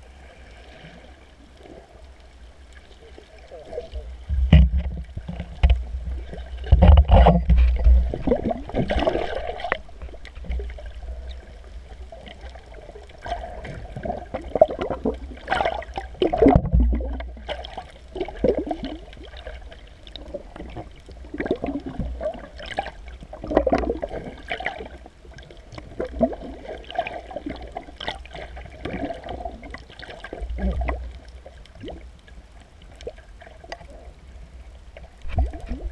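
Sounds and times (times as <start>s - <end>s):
underwater gurgling and sloshing: 0.0s - 35.9s.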